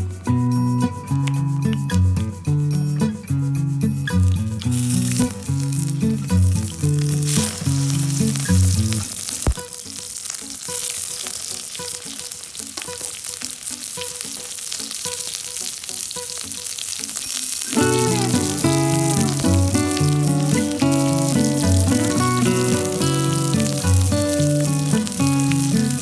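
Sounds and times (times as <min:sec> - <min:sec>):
background music: 0:00.0 - 0:26.0
food sizzling in a pan: 0:03.8 - 0:26.0.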